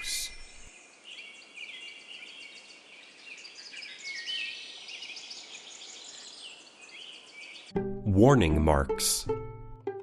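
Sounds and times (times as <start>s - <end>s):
songbirds chirping and trilling: 0.0s - 9.4s.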